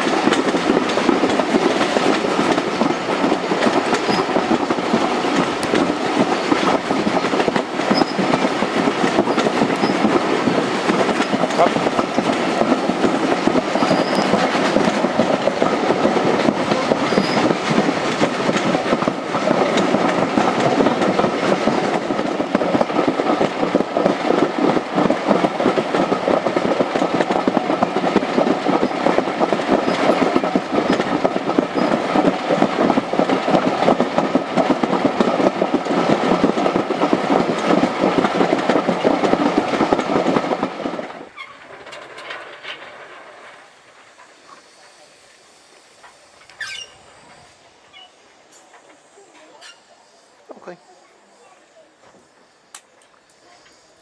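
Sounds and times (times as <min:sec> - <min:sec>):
train wheels clattering on track: 0:00.0 - 0:54.0.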